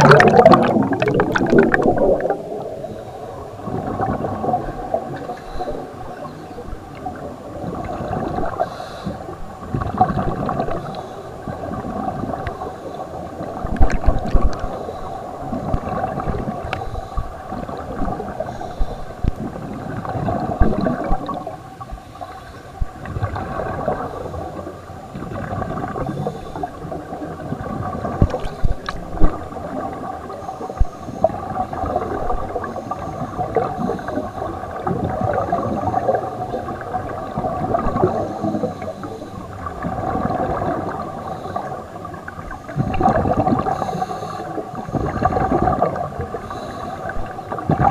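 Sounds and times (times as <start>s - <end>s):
bubbles gurgling underwater: 0.0s - 8.8s, 9.4s - 22.0s, 22.8s - 47.9s.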